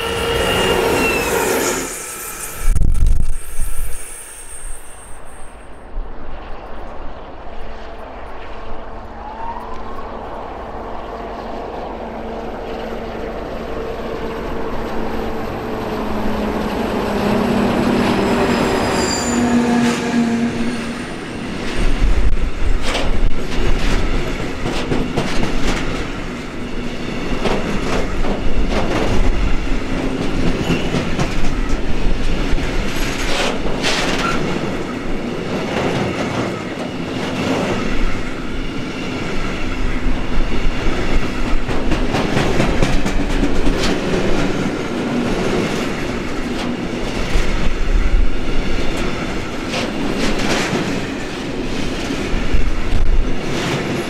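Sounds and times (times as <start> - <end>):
diesel locomotive engine drone: 0.0 - 54.0
train wagons rumbling past: 0.0 - 54.0.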